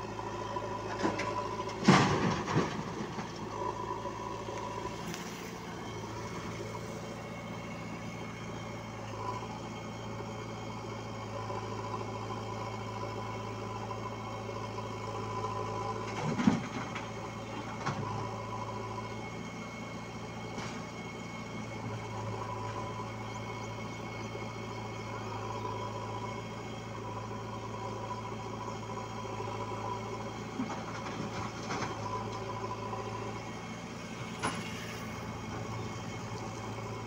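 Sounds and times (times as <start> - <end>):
diesel engines running: 0.0 - 37.0.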